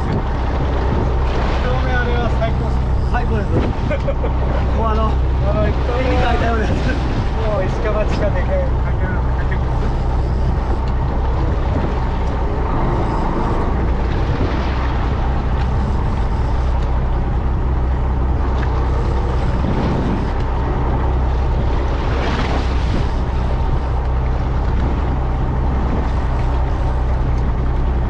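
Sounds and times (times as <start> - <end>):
boat engine humming: 0.0 - 28.0
water noise: 0.0 - 28.0
wind: 0.0 - 28.0.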